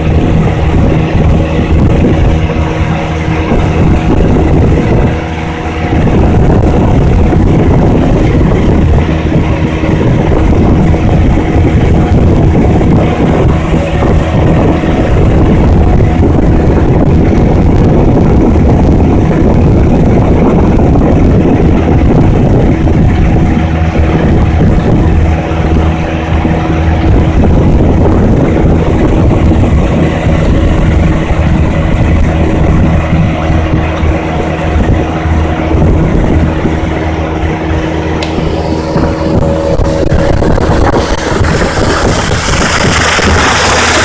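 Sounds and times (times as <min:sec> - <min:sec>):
outboard motor hum: 0:00.0 - 0:44.0
wind buffeting microphone: 0:00.0 - 0:44.0.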